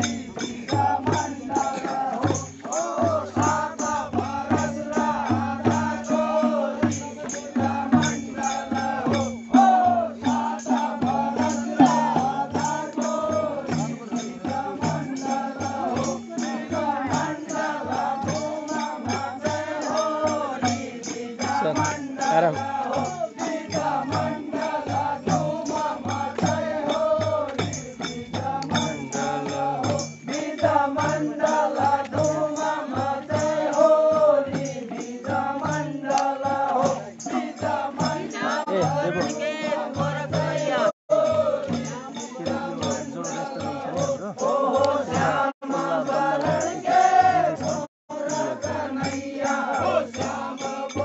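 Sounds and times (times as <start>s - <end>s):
drum beat: 0.0s - 51.0s
men singing in chorus: 0.0s - 51.0s.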